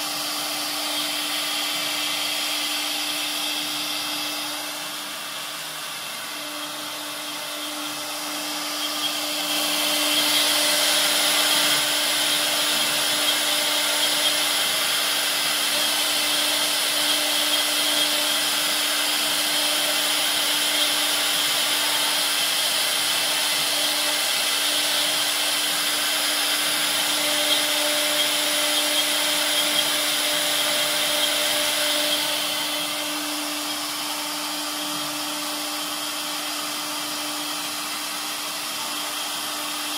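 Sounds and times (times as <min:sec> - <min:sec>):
router bit cutting wood: 0:00.0 - 0:39.9
router spindle whine: 0:00.0 - 0:39.9.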